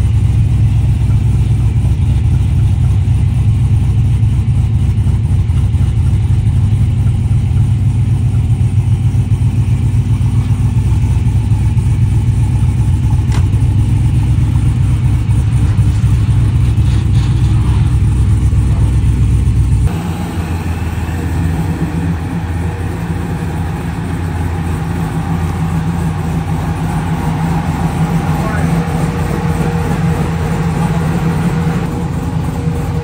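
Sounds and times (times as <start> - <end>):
car engine running steadily: 0.0 - 33.0
quieter engine sound: 0.0 - 33.0.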